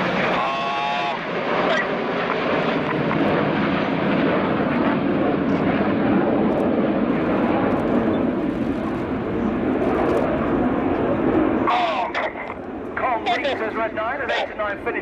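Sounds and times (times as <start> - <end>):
jets flying overhead: 0.0 - 15.0.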